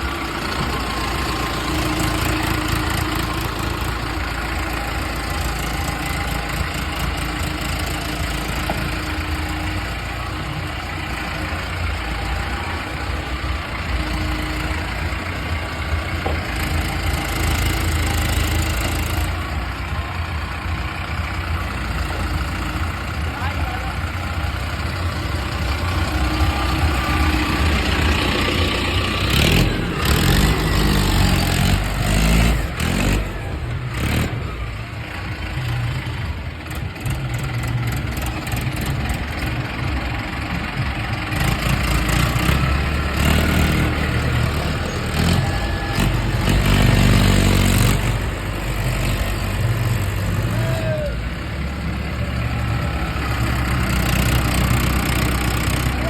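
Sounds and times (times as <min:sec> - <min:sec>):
tractor engine idling and revving: 0:00.0 - 0:56.0.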